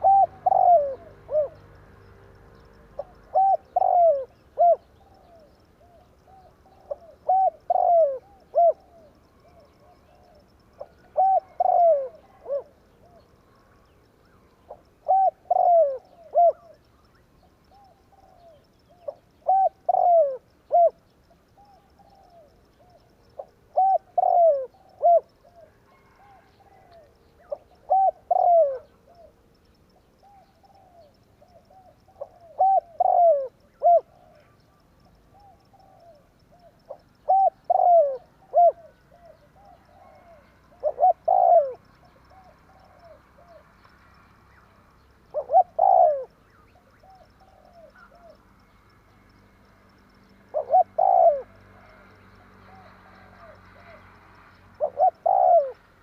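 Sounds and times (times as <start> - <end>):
dove cooing: 0.0 - 1.7, 2.6 - 13.3, 14.7 - 16.9, 17.7 - 21.0, 21.6 - 29.4, 30.2 - 43.9, 45.3 - 48.4, 50.5 - 54.1, 54.8 - 56.0.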